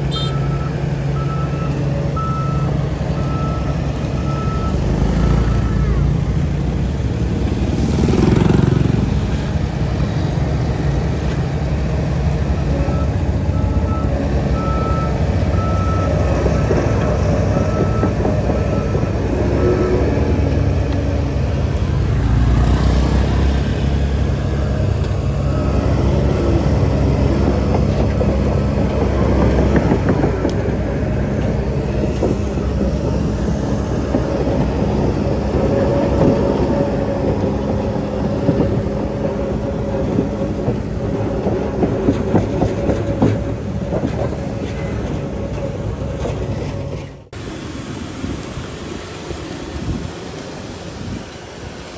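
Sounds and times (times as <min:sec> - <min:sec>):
diesel engine under load: 0:00.0 - 0:51.9
steel tracks clanking: 0:00.0 - 0:51.9.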